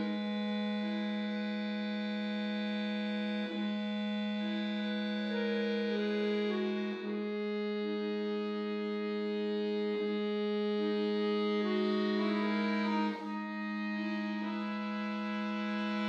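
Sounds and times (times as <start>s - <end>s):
button accordion playing: 0.0s - 16.0s.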